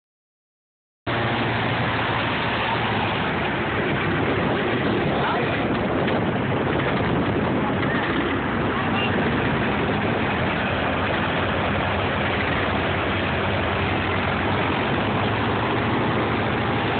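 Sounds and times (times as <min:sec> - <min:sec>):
airboat engine and propeller: 0:01.1 - 0:16.9.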